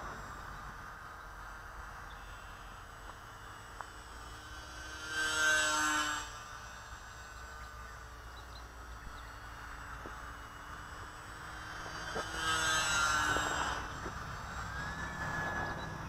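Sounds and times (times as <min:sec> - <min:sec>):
model plane propeller humming: 0:00.0 - 0:16.0.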